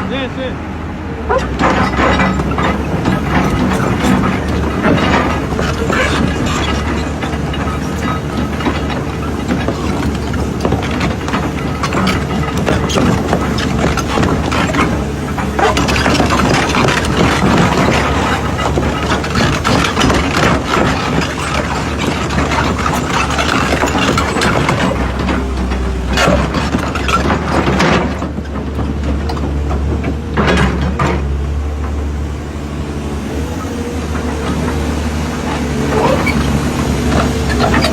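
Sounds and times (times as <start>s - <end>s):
excavator diesel engine running: 0.0s - 37.9s
metal clanks and knocks: 1.3s - 37.9s.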